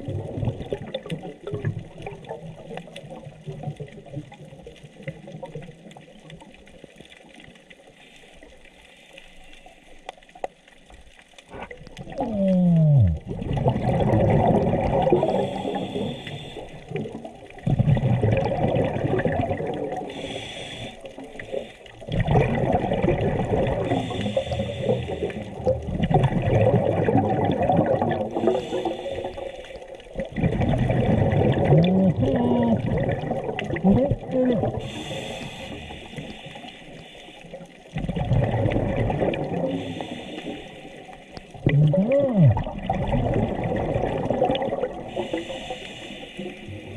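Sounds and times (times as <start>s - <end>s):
underwater exhaled bubbles: 0.0s - 46.9s.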